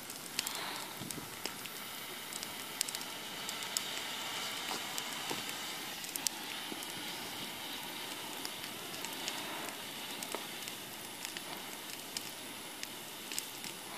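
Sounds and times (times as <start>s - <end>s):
smoke flare hissing: 0.0s - 13.9s.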